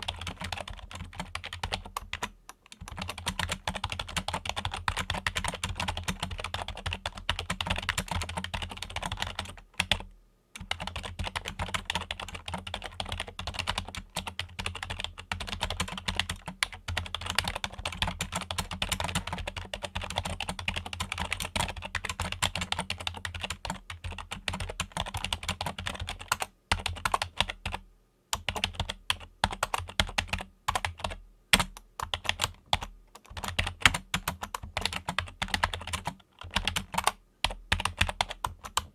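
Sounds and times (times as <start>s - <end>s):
keyboard typing: 0.0s - 27.8s, 28.4s - 38.9s.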